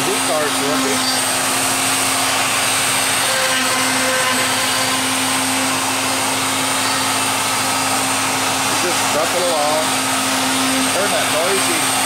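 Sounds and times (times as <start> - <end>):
dust collector rushing: 0.0 - 12.0
router spindle whining: 0.0 - 12.0.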